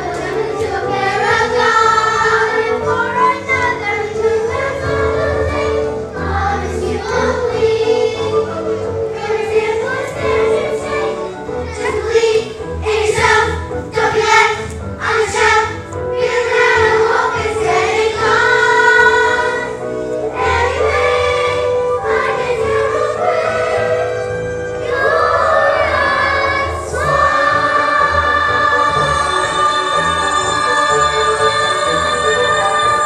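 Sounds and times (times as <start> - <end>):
backing music: 0.0 - 33.0
children's chorus singing: 0.0 - 33.0.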